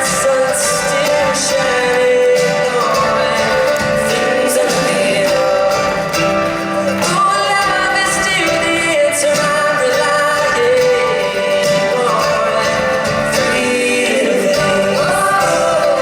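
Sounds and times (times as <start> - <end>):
live pop-folk band playing: 0.0 - 16.0
person singing: 0.0 - 16.0.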